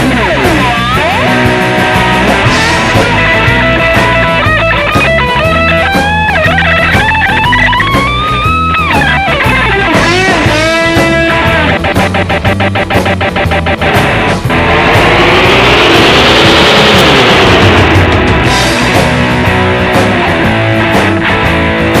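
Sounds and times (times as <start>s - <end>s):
electric guitar with delay repeats: 0.0s - 22.0s
low backing music: 0.0s - 22.0s.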